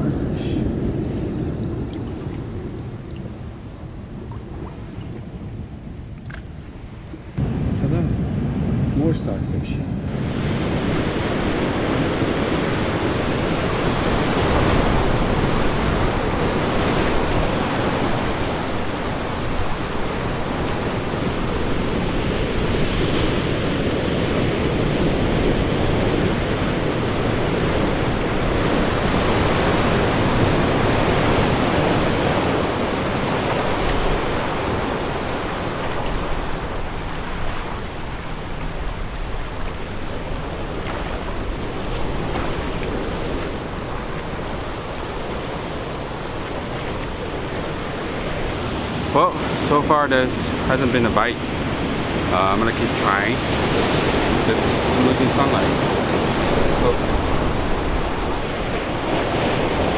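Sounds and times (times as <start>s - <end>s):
ocean surf on rocks: 0.0s - 59.9s.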